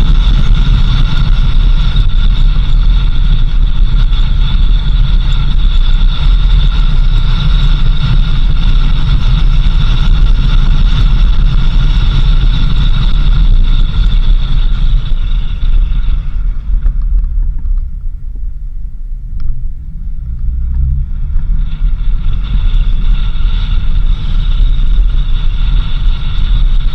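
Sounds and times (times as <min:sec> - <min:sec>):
high whine: 0:00.0 - 0:26.9
vehicle rumbling on dirt road: 0:00.0 - 0:26.9.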